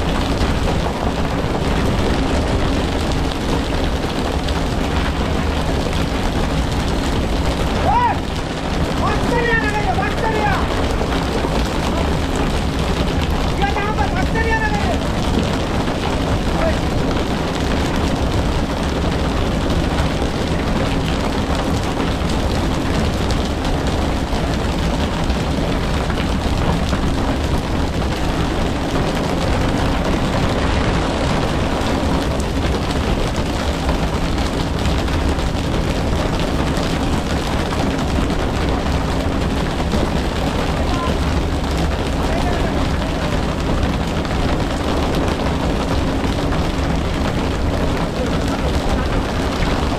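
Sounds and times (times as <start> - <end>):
constant rushing noise: 0.0 - 49.9.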